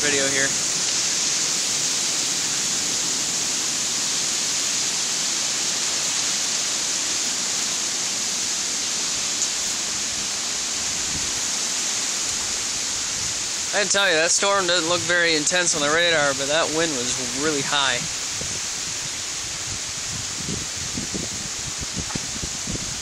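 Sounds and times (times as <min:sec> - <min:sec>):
heavy rain: 0:00.0 - 0:23.0
high wind through trees: 0:00.0 - 0:23.0.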